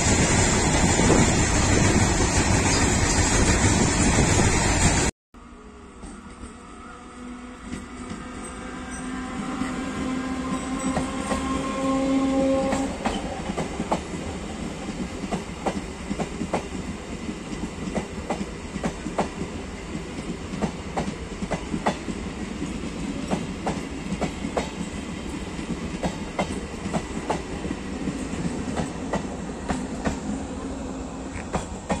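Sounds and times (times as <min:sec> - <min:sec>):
train coaches rumbling past: 0:00.0 - 0:32.0.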